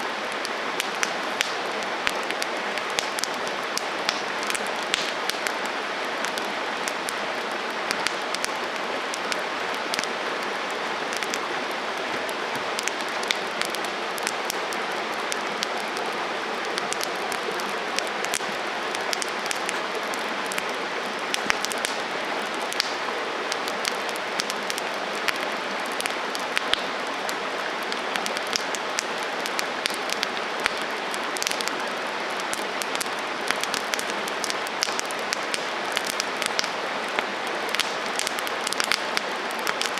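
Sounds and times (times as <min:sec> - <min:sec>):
burning wood crackling and popping: 0:00.0 - 0:39.9
campfire flames hissing: 0:00.0 - 0:39.9.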